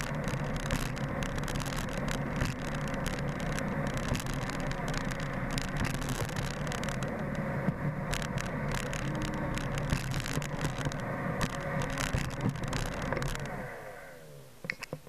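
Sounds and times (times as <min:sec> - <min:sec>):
sharp clicks and knocks: 0:00.0 - 0:13.7, 0:14.6 - 0:15.0.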